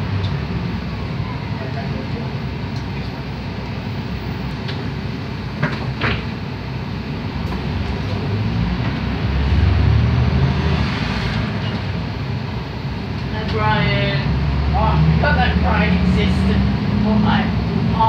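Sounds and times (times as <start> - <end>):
bus diesel engine running: 0.0 - 18.0.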